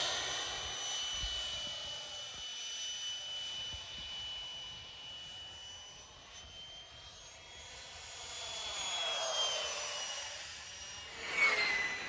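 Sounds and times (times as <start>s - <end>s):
model jet engine whine passing: 0.0s - 12.0s.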